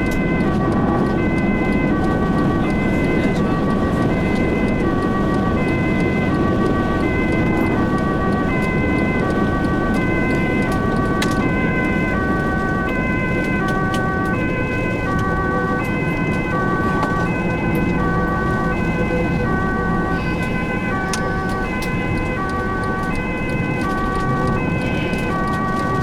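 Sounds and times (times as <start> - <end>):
engine and road noise: 0.0 - 26.0
two-tone ambulance siren: 0.0 - 26.0.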